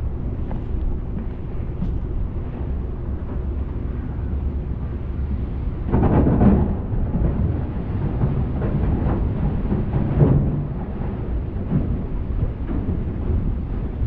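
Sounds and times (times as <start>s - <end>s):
ferry engine low rumble: 0.0s - 14.0s.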